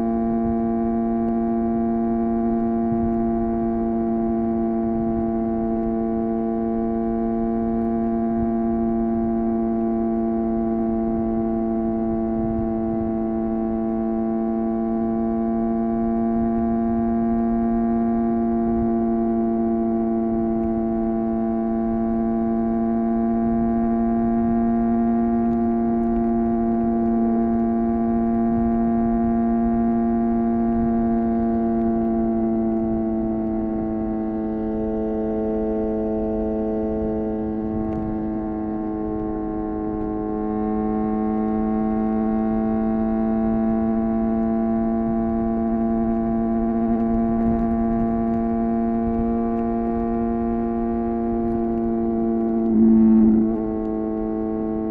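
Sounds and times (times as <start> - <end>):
motorcycle engine droning: 0.0 - 54.9.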